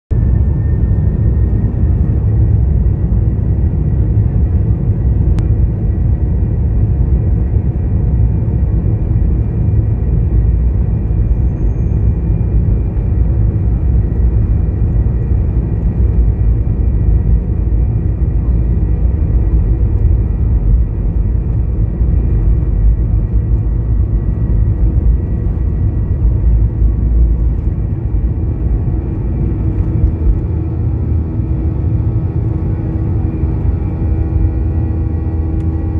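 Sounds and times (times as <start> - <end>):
jet engine whine and rumble: 0.1 - 35.9.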